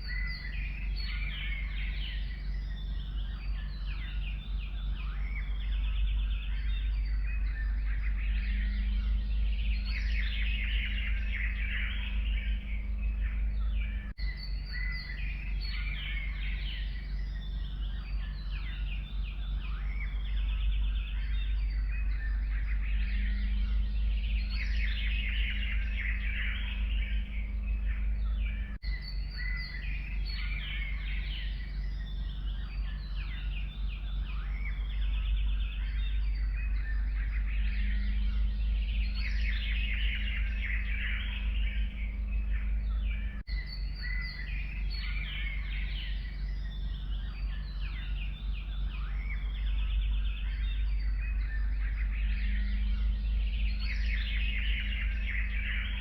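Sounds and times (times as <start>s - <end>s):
songbirds chirping and trilling: 0.0s - 56.0s
steady low rumble: 0.0s - 56.0s.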